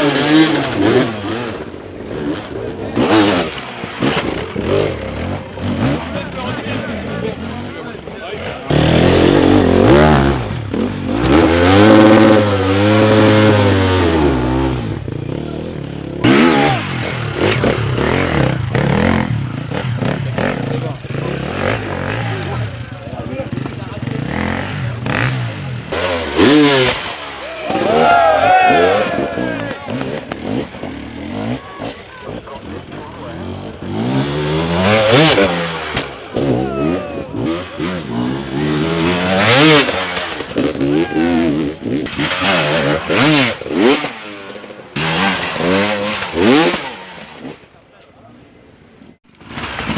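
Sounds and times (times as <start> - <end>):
dirt bike engine revving: 0.0 - 47.7.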